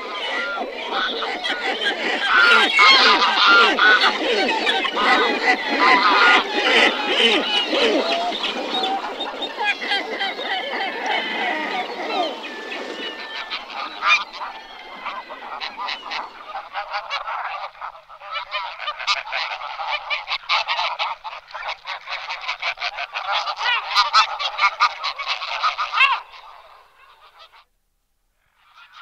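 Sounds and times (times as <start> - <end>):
flock of waterbirds calling: 0.0 - 27.6, 28.6 - 29.0.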